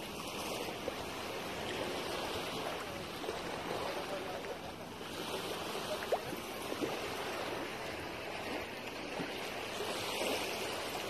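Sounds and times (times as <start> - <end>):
shallow water lapping and sloshing: 0.0 - 11.0.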